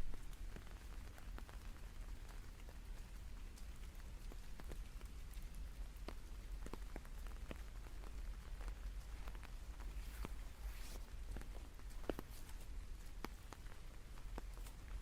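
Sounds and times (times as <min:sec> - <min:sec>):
faint rain hiss: 0:00.0 - 0:15.0
rain drops ticking: 0:00.0 - 0:15.0.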